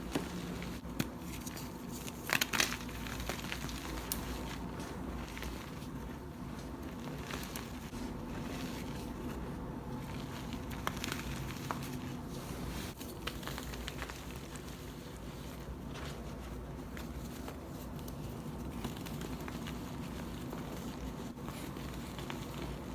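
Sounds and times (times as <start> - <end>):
chalk crumbling by hand: 0.0 - 22.9.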